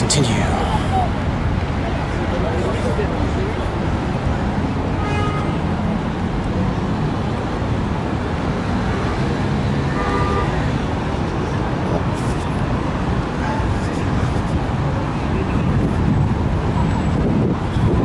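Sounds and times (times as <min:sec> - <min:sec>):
busy road traffic: 0:00.0 - 0:18.0.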